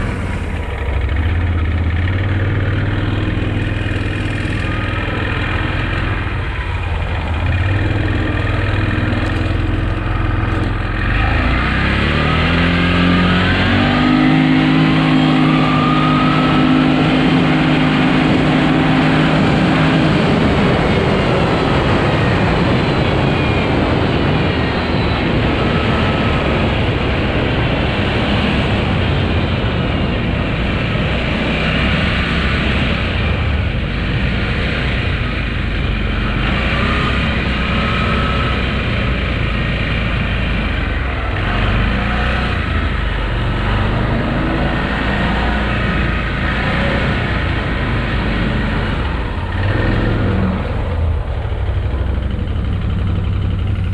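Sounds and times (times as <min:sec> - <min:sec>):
snowmobile engine revving: 0:00.0 - 0:33.4, 0:34.1 - 0:53.8.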